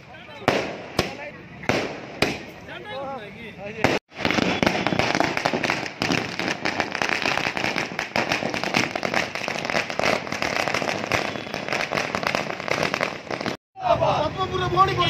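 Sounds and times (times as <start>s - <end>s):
firecrackers crackling: 0.0s - 2.7s, 3.8s - 13.6s.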